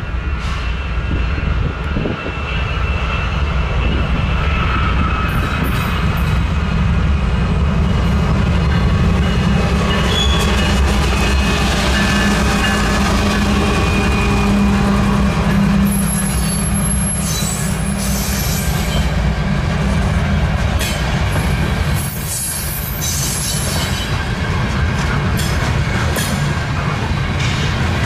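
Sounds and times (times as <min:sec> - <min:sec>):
train wheel squeal: 0:00.0 - 0:06.6, 0:07.8 - 0:19.5, 0:20.8 - 0:28.0
freight train rumbling on rails: 0:00.0 - 0:28.0.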